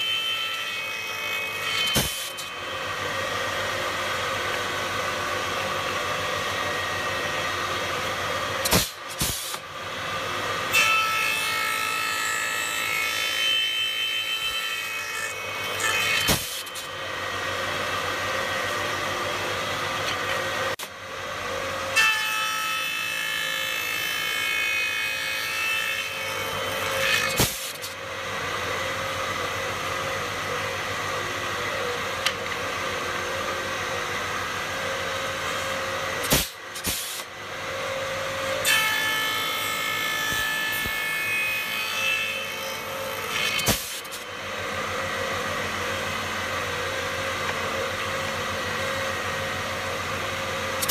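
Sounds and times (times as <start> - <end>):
woodworking machine running: 0.0 - 22.0, 22.8 - 50.9
wood cutting with high whine: 0.0 - 50.9.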